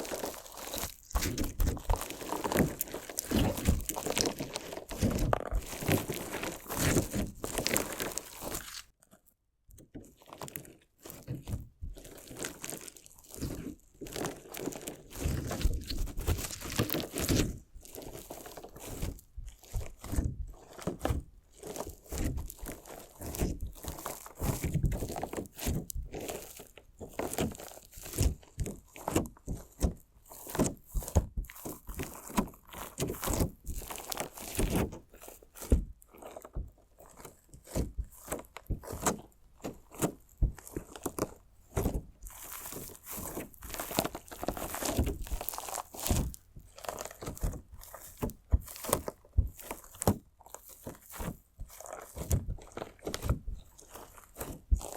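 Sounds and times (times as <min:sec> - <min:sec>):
crunchy slime crackling: 0:00.0 - 0:09.0, 0:10.0 - 0:54.9.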